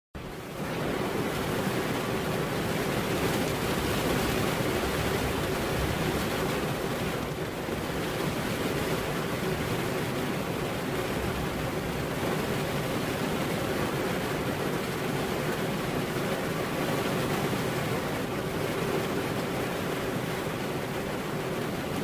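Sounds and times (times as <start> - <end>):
heavy rain: 0.2 - 22.0.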